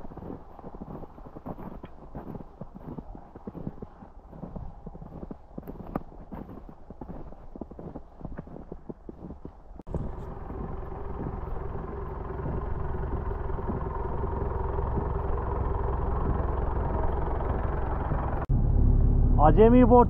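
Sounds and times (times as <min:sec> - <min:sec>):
vehicle engine and tyres: 0:00.0 - 0:20.0.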